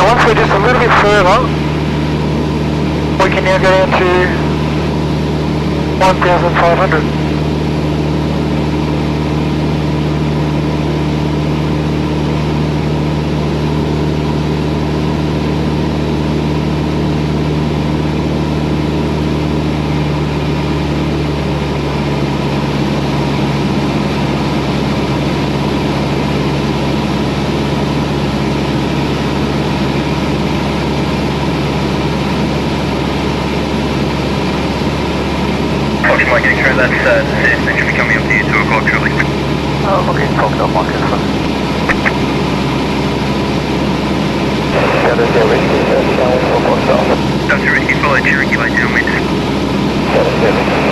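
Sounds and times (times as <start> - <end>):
propeller plane engine droning: 0.0 - 50.9.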